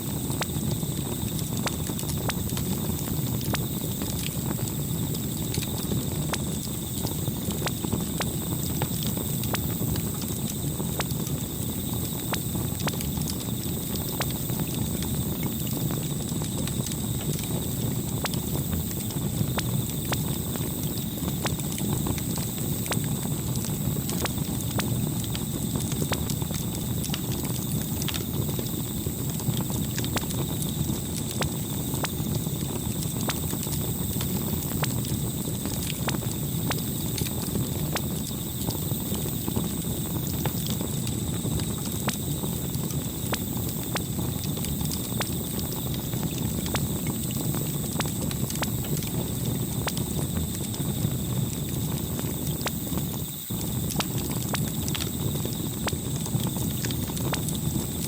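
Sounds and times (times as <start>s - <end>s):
campfire crackling and popping: 0.0s - 58.0s
low rumble of flames: 0.0s - 58.0s.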